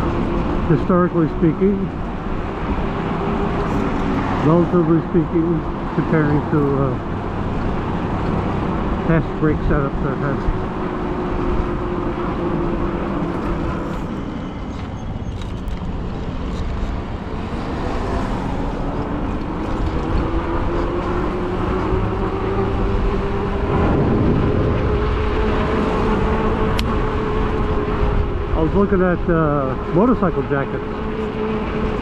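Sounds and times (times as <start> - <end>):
road rumble: 0.0 - 32.0
wind: 0.0 - 32.0.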